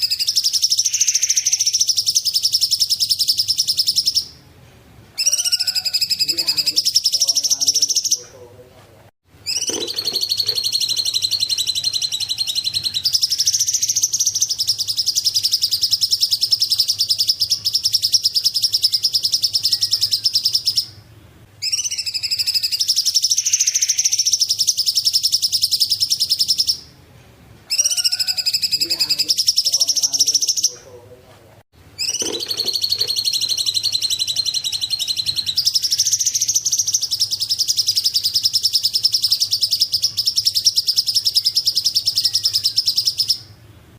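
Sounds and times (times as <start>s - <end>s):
bird trilling: 0.0s - 4.4s, 5.2s - 8.3s, 9.4s - 21.0s, 21.6s - 26.9s, 27.7s - 30.8s, 32.0s - 43.6s.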